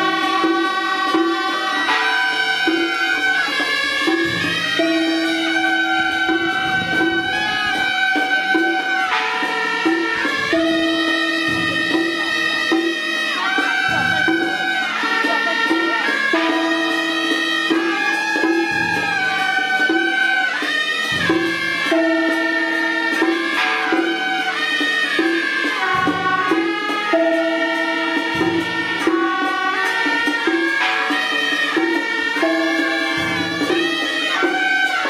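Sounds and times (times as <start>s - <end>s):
low percussion strokes: 0.0s - 35.0s
shawms playing in unison: 0.0s - 35.0s.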